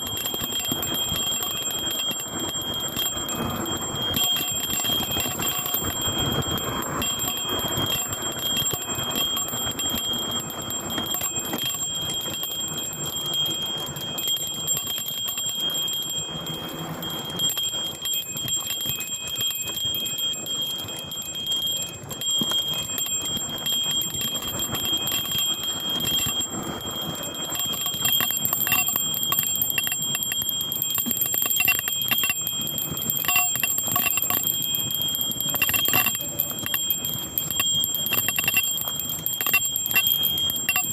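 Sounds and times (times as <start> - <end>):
bell ringing: 0.0 - 40.9
bike rattling and clicking: 0.0 - 40.9.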